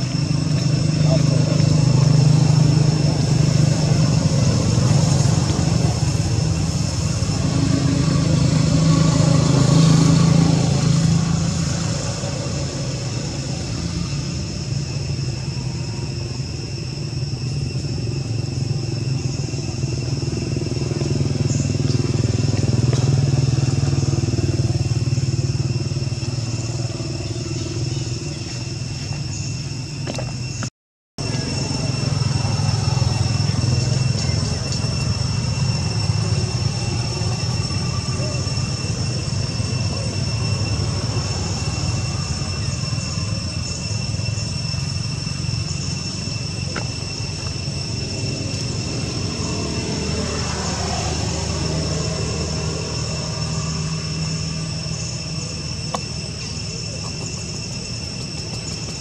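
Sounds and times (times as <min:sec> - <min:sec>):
engine droning: 0:00.0 - 0:59.0.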